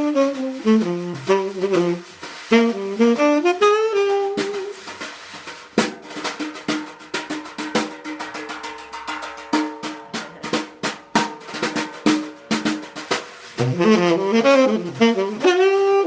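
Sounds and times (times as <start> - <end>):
jazz drum kit break: 0.0 - 16.0
faint pitched accompaniment: 3.0 - 16.0.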